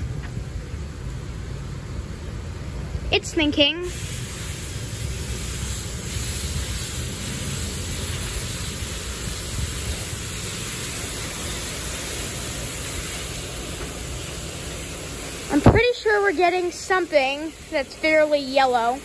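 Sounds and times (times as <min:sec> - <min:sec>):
car wash water spray hiss: 0:00.0 - 0:19.0.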